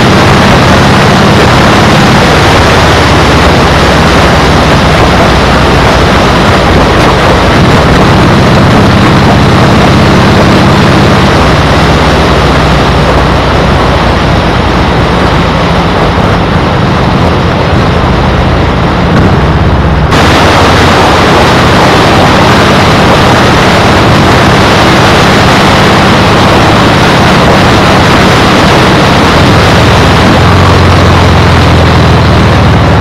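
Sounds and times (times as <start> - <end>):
low steady drone: 0.0 - 33.0
wind buffeting microphone: 0.0 - 33.0.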